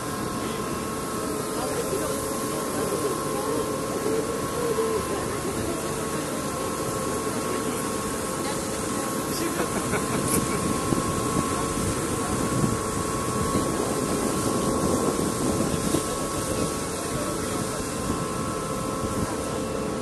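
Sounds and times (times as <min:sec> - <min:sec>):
boat engine drone with whine: 0:00.0 - 0:20.0
water washing along hull: 0:00.0 - 0:20.0.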